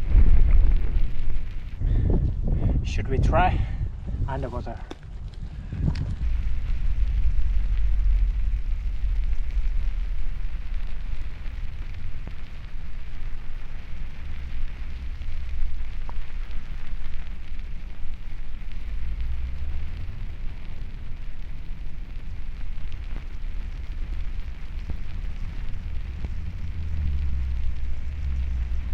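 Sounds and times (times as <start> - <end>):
underwater spring rumble: 0.0 - 4.4, 5.0 - 28.9
faint bubble ticks: 4.8 - 28.9.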